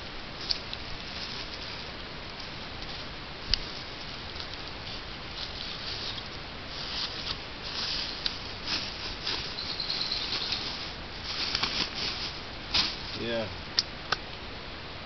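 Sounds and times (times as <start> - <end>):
leafy plants rustling: 0.0 - 13.8
plastic bag rustling: 1.0 - 13.5.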